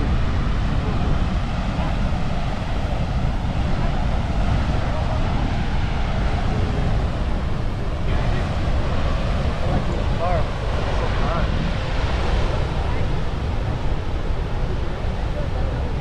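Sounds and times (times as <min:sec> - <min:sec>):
river rushing through dam: 0:00.0 - 0:16.0.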